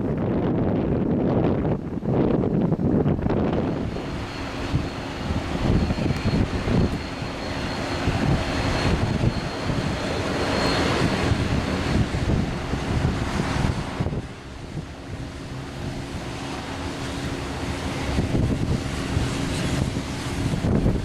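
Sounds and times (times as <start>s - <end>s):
aircraft engines whining: 0.0s - 21.0s.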